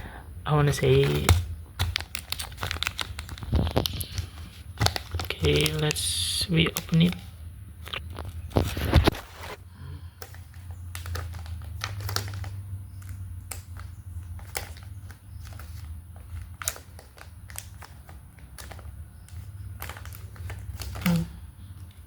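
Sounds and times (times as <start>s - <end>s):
packaging crinkling and rustling: 0.6s - 22.0s.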